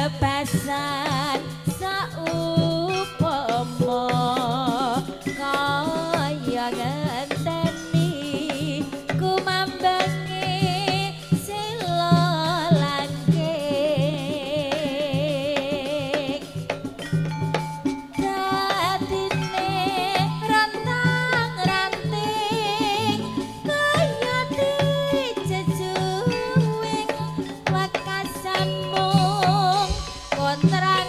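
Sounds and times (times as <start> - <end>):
woman singing with vibrato: 0.0 - 16.6, 18.2 - 31.0
band with steady drums: 3.2 - 31.0.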